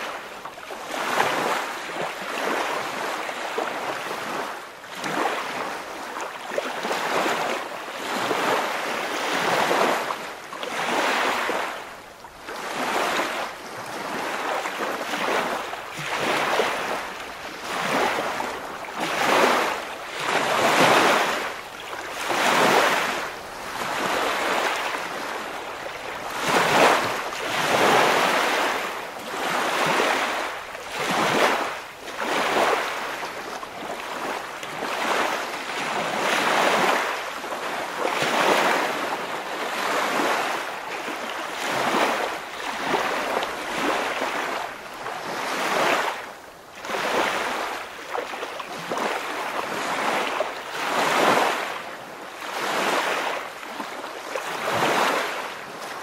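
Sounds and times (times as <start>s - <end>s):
waves washing in and out: 0.0s - 56.0s.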